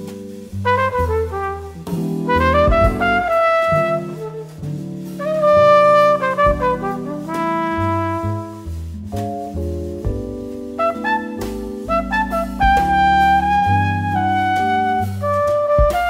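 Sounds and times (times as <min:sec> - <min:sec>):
flugelhorn melody: 0:00.0 - 0:16.0
jazz band accompaniment: 0:00.0 - 0:16.0.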